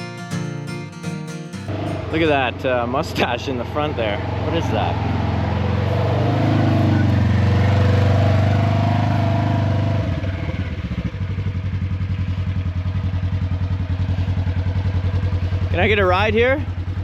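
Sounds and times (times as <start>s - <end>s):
atv engine running: 1.7s - 17.0s.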